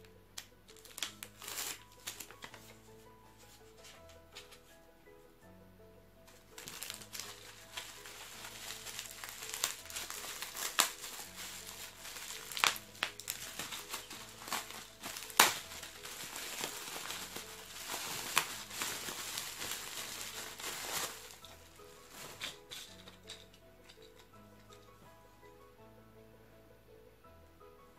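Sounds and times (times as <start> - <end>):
bubble wrap crinkling and crackling: 0.0 - 4.8, 6.3 - 25.0.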